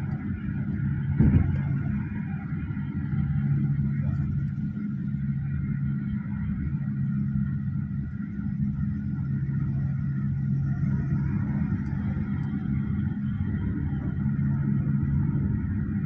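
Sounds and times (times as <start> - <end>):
road and engine drone in cabin: 0.0 - 16.0.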